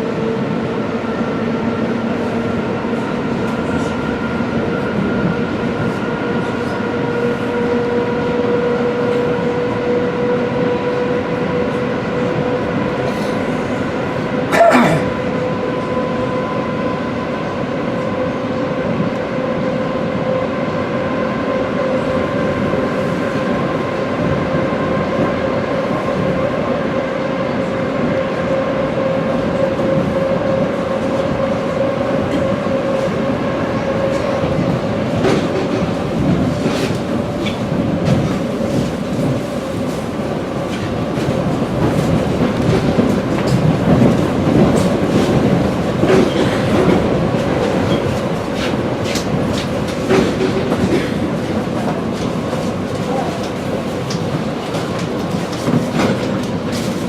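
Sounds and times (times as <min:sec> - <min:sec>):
train running gear rumble: 0:00.0 - 0:57.0.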